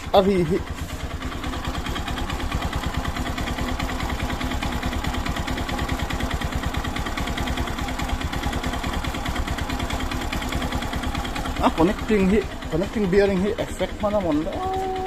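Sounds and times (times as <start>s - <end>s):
engine running with rapid knock: 0.0s - 15.0s.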